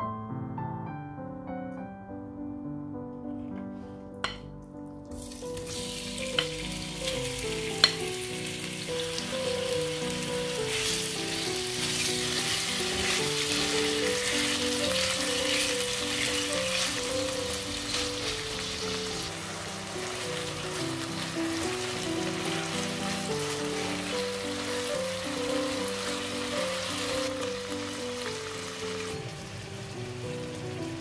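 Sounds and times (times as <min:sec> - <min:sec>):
chicken sizzling in a pan: 0:05.2 - 0:31.0.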